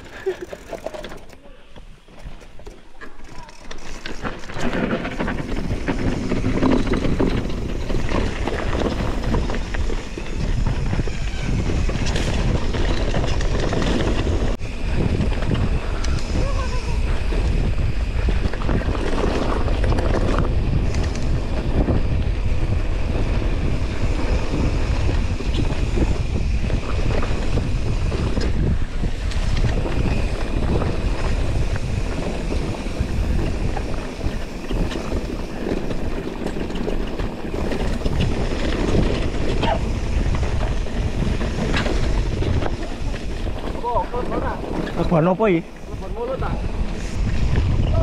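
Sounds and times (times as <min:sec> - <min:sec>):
bike knocks and rattles: 0:00.0 - 0:46.4
wind buffeting microphone: 0:03.6 - 0:48.0.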